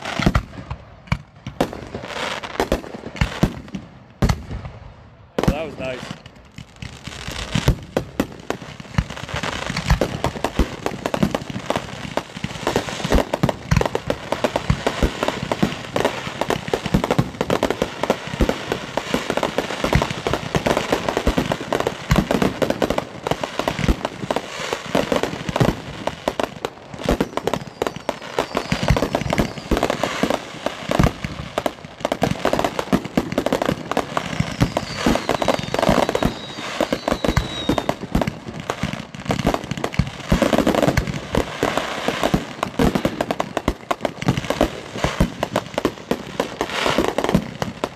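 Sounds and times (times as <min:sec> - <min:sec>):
fireworks bangs and booms: 0:00.0 - 0:47.9.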